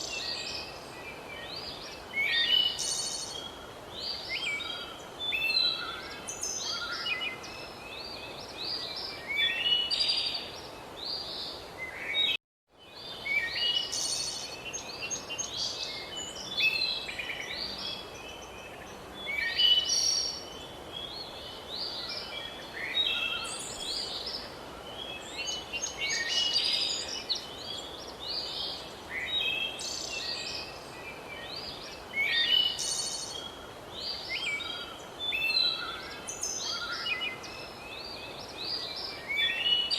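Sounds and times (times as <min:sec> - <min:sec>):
songbirds chirping and trilling: 0:00.0 - 0:39.9
steady outdoor hiss: 0:00.0 - 0:39.9.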